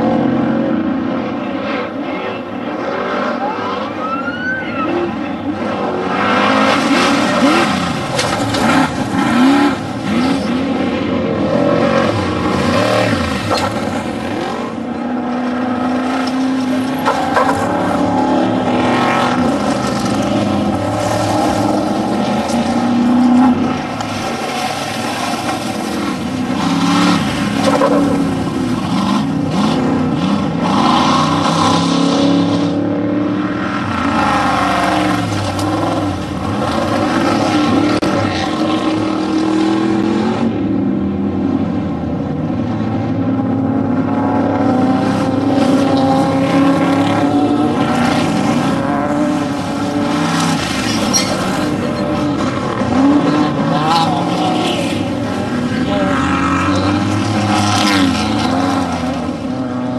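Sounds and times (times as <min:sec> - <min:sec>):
race vehicle engines revving past: 0:00.0 - 0:59.9.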